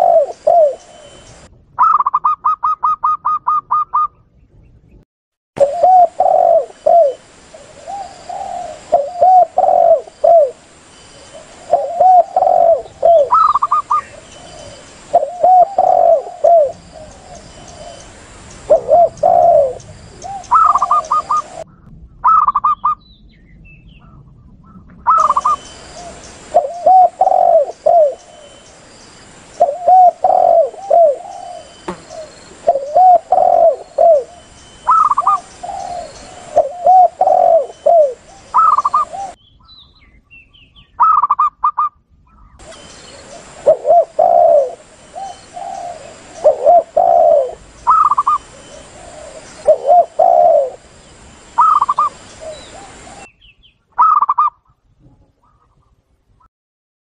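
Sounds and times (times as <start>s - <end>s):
doves cooing: 0.0s - 4.2s, 5.6s - 23.0s, 24.1s - 28.7s, 29.4s - 39.4s, 42.6s - 53.3s, 54.0s - 54.6s
high-pitched dove coos: 0.0s - 4.2s, 5.6s - 23.0s, 24.0s - 28.6s, 29.6s - 39.4s, 41.0s - 53.3s, 54.0s - 55.9s.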